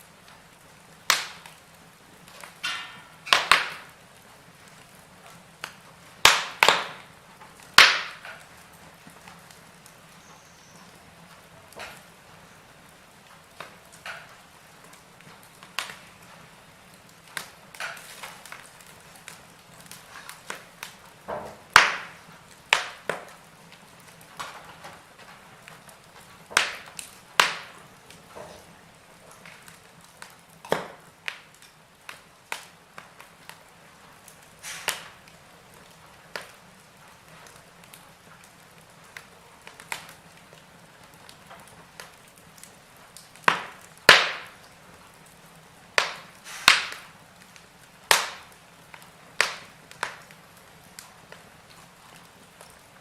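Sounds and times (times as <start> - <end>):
faint steady hiss: 0.0 - 53.0
logs crackling in fireplace: 0.0 - 53.0.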